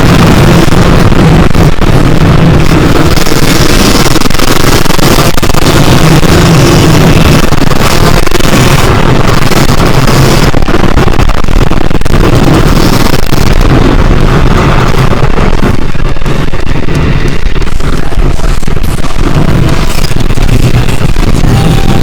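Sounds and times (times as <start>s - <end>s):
dirt bike engine running hard: 0.0s - 22.0s.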